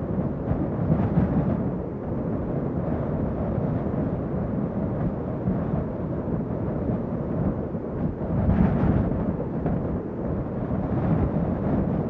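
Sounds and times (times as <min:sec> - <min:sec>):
strong gusty wind: 0:00.0 - 0:12.0.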